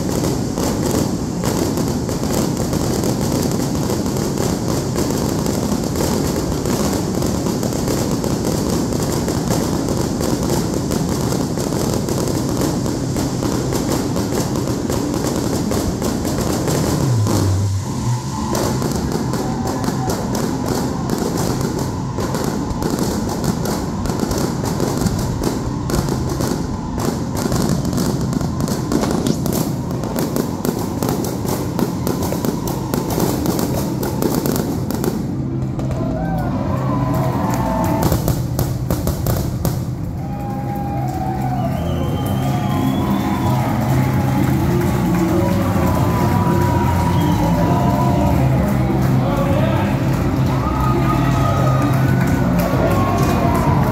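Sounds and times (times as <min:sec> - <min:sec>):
fireworks bursting and crackling: 0:00.0 - 0:53.9.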